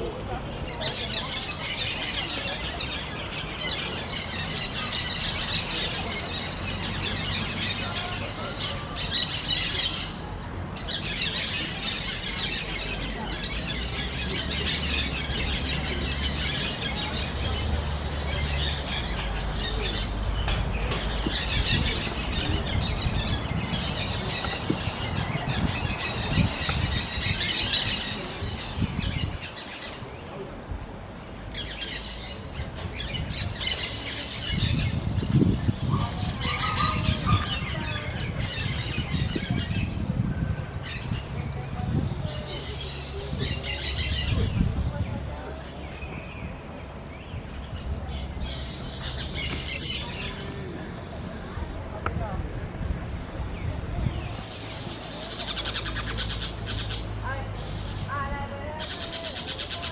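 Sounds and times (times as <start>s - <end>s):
parakeets chattering: 0.4s - 30.2s, 31.1s - 44.8s, 47.1s - 51.3s, 53.6s - 59.9s.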